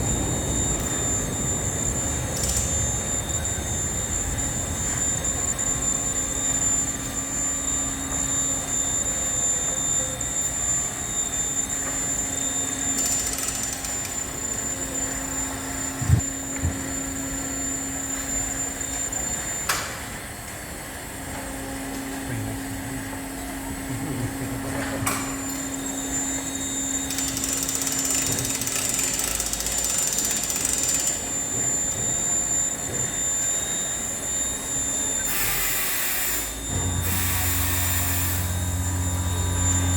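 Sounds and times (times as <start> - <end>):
machinery humming with whine: 0.0 - 39.9.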